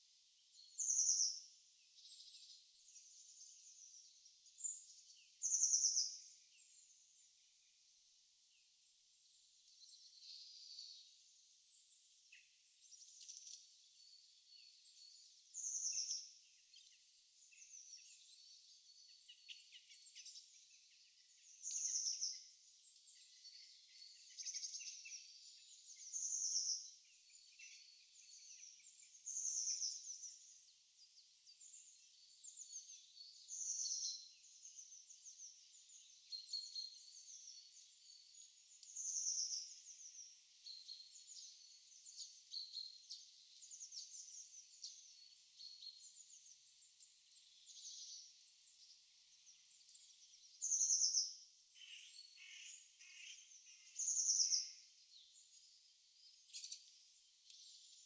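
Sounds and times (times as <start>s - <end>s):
loud bird song phrase: 0.0s - 58.0s
soft bird twittering: 0.0s - 58.0s.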